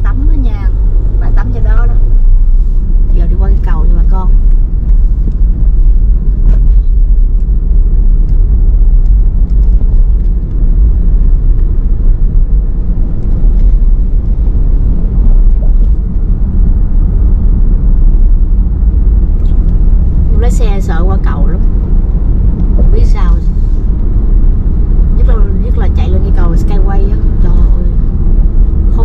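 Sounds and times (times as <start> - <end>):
car interior road and engine rumble: 0.0 - 29.0.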